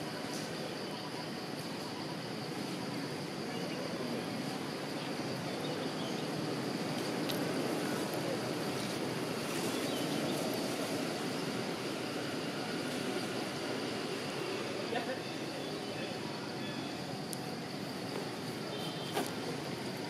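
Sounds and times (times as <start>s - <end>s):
faint insect drone: 0.0s - 20.0s
low rumble of distant traffic: 0.0s - 20.0s.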